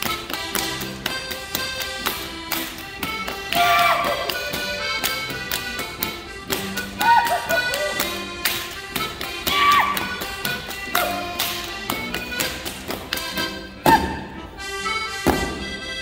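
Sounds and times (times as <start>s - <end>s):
people clapping: 0.0s - 13.4s
lively folk dance music: 0.0s - 16.0s.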